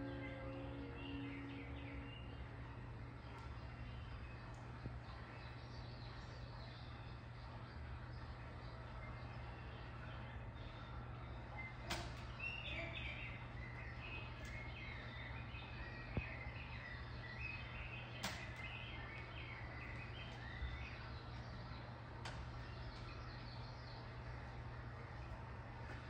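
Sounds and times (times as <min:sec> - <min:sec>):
birdsong chirps and warbles: 0:00.0 - 0:26.0
steady low hum: 0:00.0 - 0:26.0.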